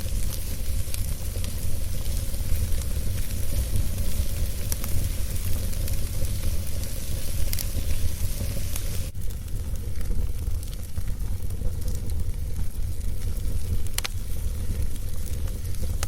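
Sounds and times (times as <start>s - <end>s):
fire crackles: 0.0s - 16.0s
wood fire rumble and hiss: 0.0s - 16.0s.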